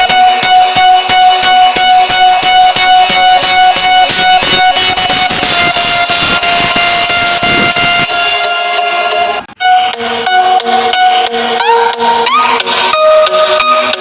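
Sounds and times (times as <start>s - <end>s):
loud music with fast beat: 0.0s - 14.0s.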